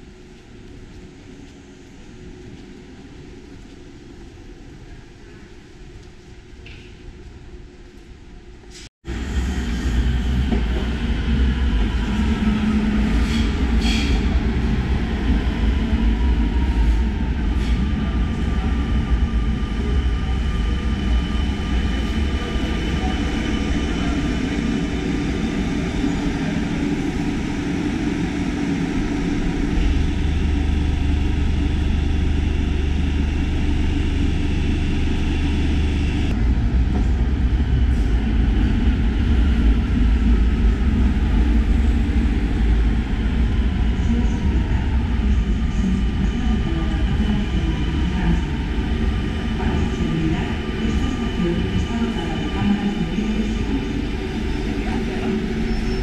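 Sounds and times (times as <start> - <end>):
metro train rumbling: 0.0 - 56.0.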